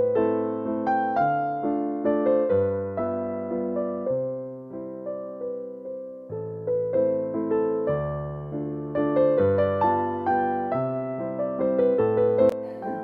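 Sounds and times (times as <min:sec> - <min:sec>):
slow gentle piano music: 0:00.0 - 0:13.0.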